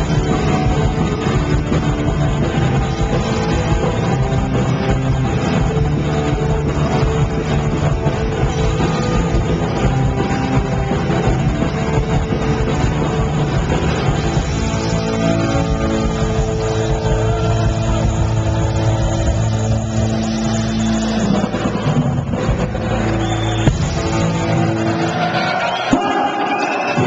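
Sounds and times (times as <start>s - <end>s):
punk rock band playing live: 0.0s - 27.0s.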